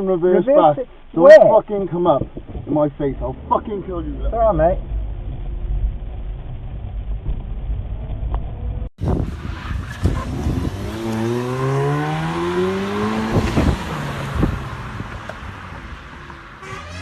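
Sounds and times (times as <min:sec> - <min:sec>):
car engine accelerating: 0:02.9 - 0:17.0.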